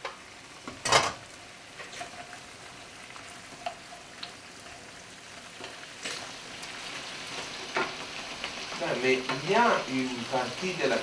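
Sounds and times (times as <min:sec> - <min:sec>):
seafood sizzling in a pan: 0:00.0 - 0:11.0.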